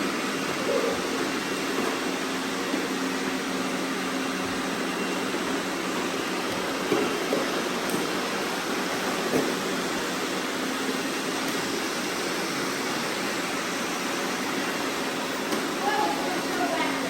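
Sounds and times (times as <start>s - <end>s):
vacuum cleaner motor whir: 0.0s - 17.0s.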